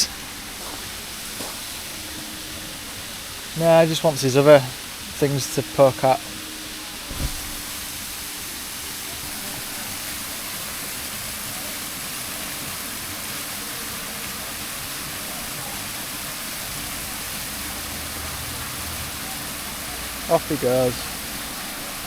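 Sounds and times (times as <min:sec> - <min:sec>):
steady outdoor hiss: 0:00.0 - 0:22.0.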